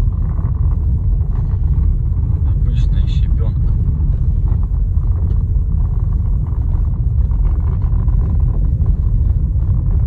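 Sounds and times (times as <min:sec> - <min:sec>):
car road rumble: 0:00.0 - 0:10.0.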